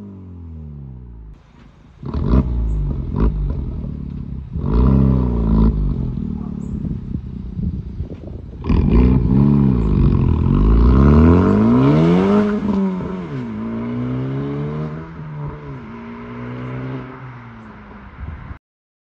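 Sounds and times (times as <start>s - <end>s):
car engine accelerating: 0.0s - 18.6s.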